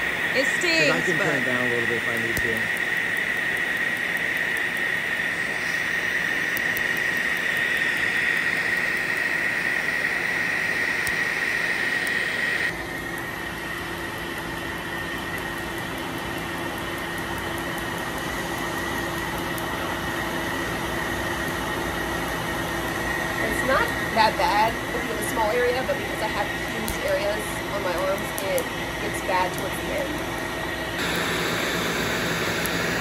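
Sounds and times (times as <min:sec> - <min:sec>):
rushing air with high whine: 0:00.0 - 0:14.1, 0:18.0 - 0:33.0.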